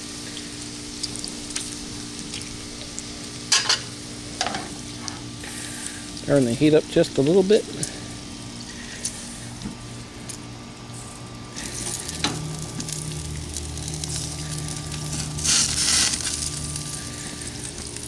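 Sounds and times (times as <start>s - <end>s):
bacon sizzling: 0.0s - 18.0s.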